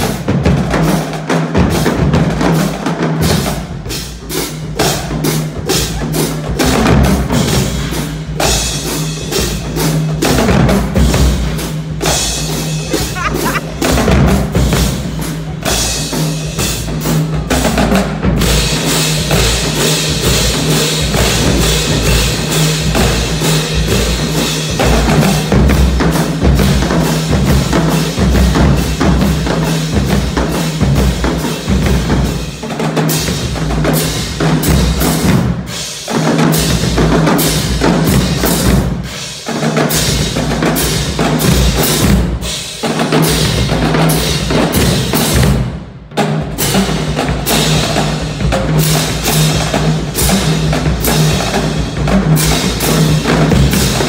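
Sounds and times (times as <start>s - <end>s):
bass drums: 0.0s - 35.7s, 39.7s - 54.0s
snare and tenor drums: 0.0s - 54.0s.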